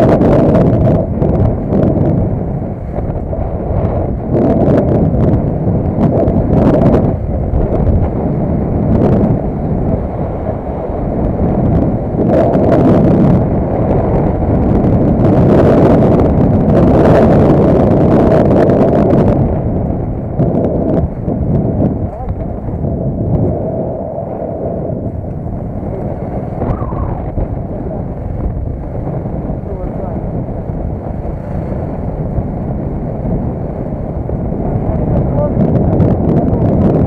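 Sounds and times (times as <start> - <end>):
road rumble: 0.0 - 37.0
wind buffeting microphone: 0.0 - 37.0.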